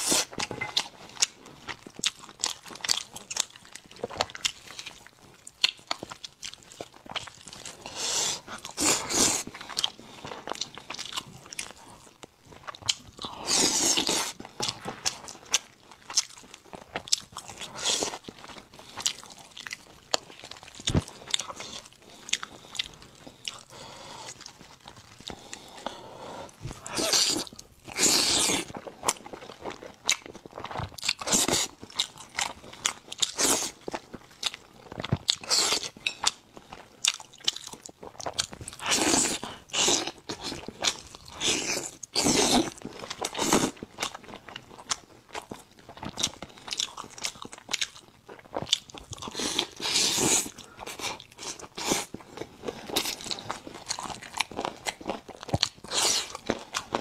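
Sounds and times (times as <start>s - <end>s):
person chewing meat: 0.0s - 57.0s.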